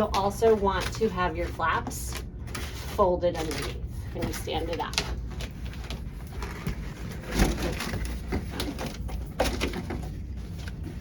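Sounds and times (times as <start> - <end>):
cardboard rubbing and scraping: 0.0 - 11.0.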